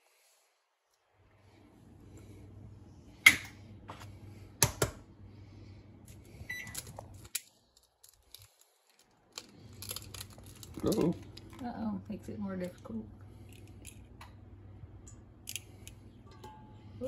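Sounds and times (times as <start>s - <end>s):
steady low hum: 1.1s - 17.0s.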